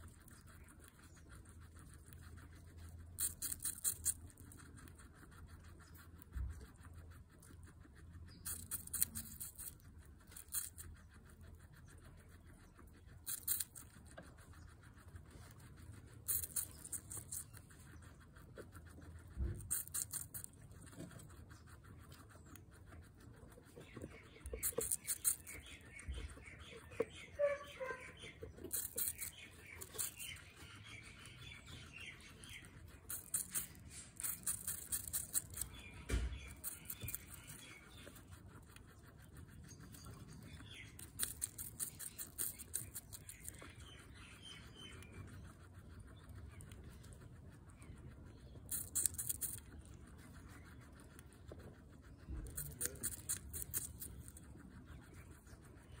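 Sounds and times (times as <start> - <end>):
guinea pig crunching apple: 0.0 - 56.0.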